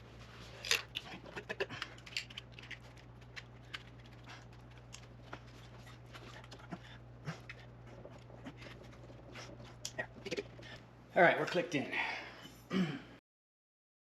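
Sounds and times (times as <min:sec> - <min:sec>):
faint low hum: 0:00.0 - 0:13.2.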